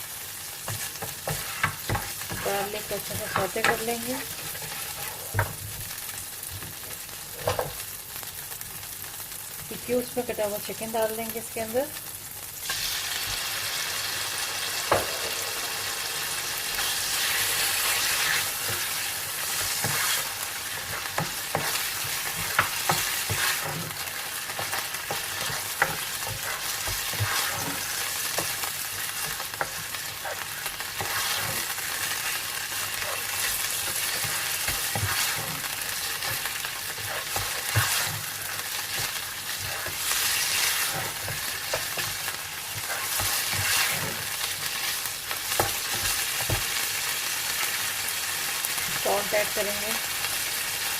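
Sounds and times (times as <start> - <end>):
chicken sizzling in a pan: 0.0 - 50.9.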